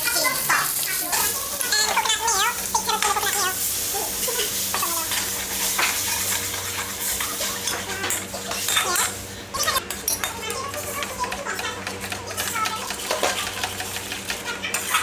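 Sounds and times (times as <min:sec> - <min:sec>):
wok sizzling: 0:00.0 - 0:15.0.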